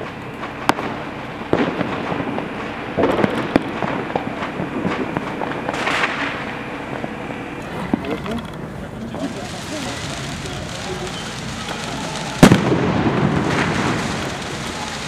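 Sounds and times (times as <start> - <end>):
firework hissing burst: 0.0 - 8.0, 8.6 - 15.0
firecrackers crackling: 0.0 - 15.0
firework bangs: 0.0 - 15.0.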